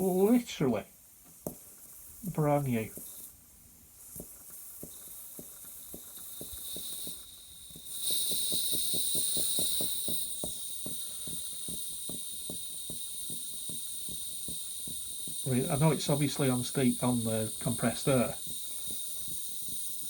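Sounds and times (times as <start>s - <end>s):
model steam engine exhaust beats: 0.0s - 20.0s
hiss of air: 1.3s - 20.0s.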